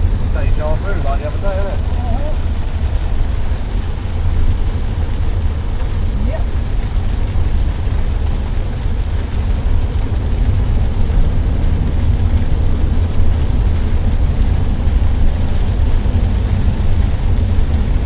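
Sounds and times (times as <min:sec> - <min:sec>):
vehicle road and wind noise: 0:00.0 - 0:18.0.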